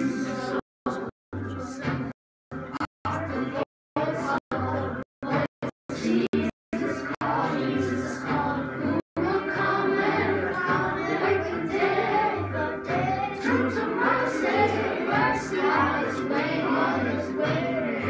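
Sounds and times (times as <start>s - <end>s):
children singing together: 3.3s - 18.0s.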